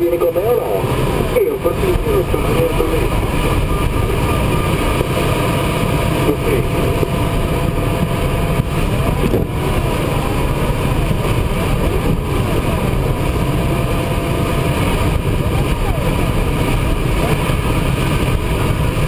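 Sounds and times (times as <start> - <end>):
faint tone bending in pitch: 0.0 - 17.0
air rushing over canopy: 0.4 - 19.0.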